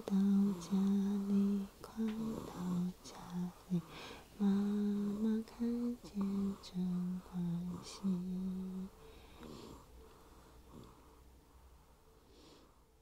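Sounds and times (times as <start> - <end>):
person softly humming: 0.0 - 11.1.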